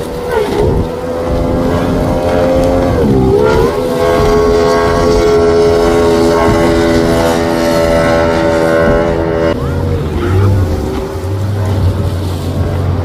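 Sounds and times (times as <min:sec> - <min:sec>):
speedboat engine at high revs: 0:00.0 - 0:13.0.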